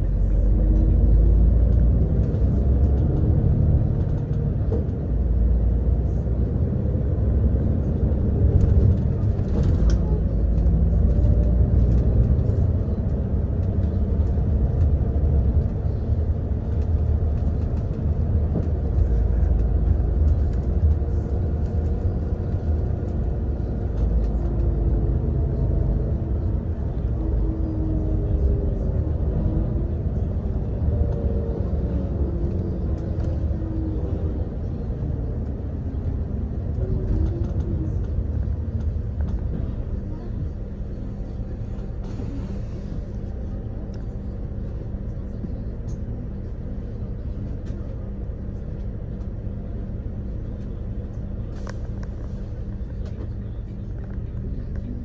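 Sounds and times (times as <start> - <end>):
road vehicle rumble: 0.0 - 55.0.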